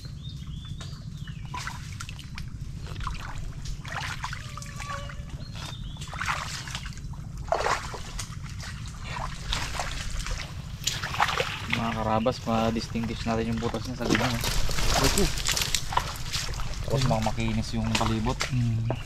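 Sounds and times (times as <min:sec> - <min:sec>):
shallow water splashing: 0:00.8 - 0:19.0.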